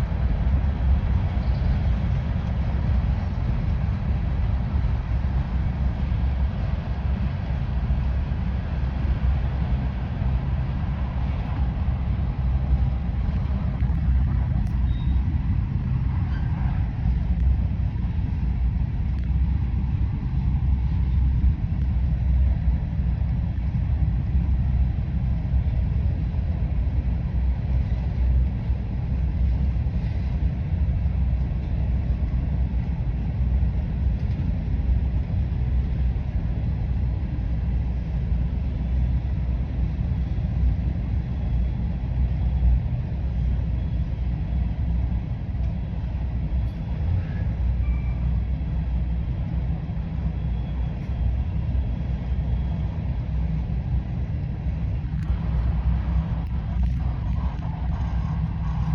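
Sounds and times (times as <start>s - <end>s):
train rumbling past: 0.0s - 58.9s.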